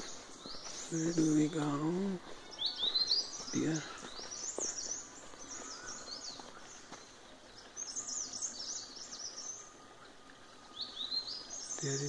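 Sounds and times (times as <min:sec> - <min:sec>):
faint outdoor hiss: 0:00.0 - 0:12.0
songbirds chirping: 0:00.0 - 0:12.0.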